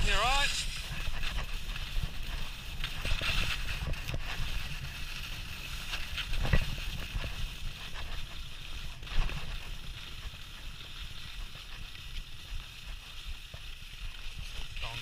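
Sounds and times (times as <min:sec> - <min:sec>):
skis scraping over snow: 0:00.0 - 0:15.0
wind rumbling on microphone: 0:00.0 - 0:15.0.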